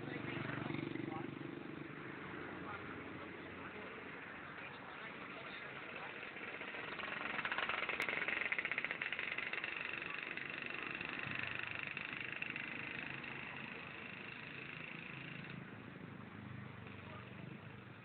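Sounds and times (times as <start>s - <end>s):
scooter two-stroke engine running: 0.0s - 18.0s.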